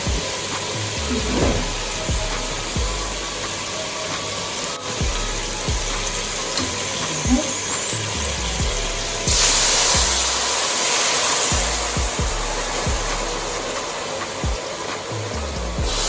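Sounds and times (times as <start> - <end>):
background music with a beat: 0.0 - 16.0
gizzards sizzling in a pot: 0.0 - 16.0.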